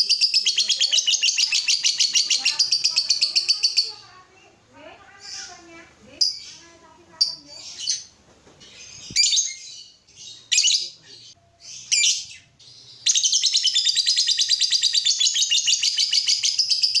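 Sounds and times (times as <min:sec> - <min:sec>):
high chattering chirps: 0:00.0 - 0:17.0
lovebirds squawking: 0:00.0 - 0:17.0.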